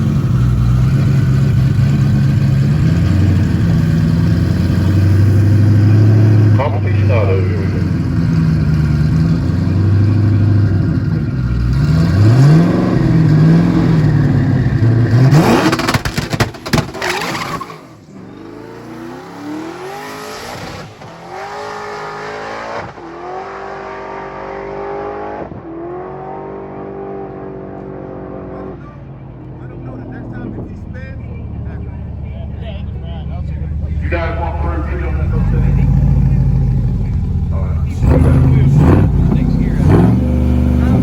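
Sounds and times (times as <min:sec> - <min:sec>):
exhaust crackles: 0:00.0 - 0:21.9, 0:29.6 - 0:41.0
sports car engine revving: 0:00.0 - 0:41.0.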